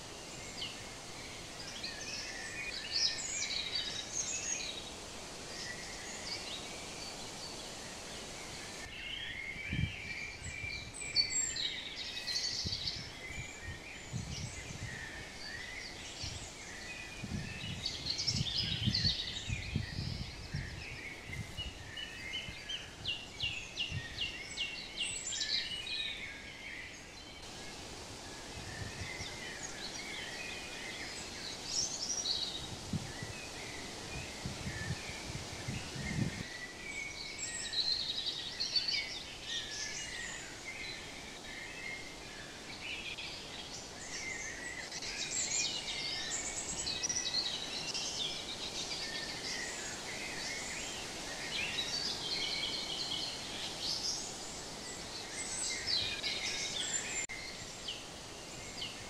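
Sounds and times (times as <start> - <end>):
songbirds chirping and singing: 0.0 - 59.0
steady outdoor hiss: 0.0 - 59.0.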